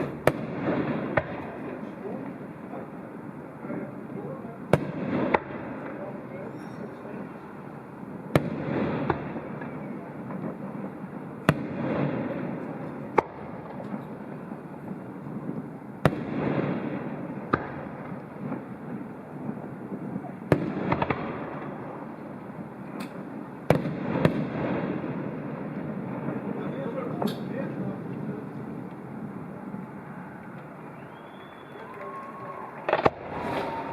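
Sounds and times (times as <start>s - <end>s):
fireworks bangs: 0.0s - 33.9s.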